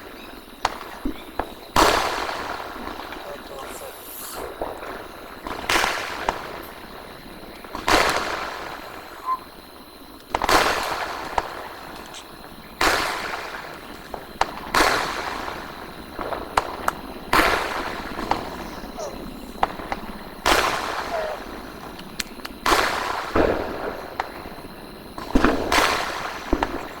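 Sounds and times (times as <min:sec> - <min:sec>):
firework bangs with echo: 0:00.0 - 0:27.0
small firework cracks: 0:00.0 - 0:27.0.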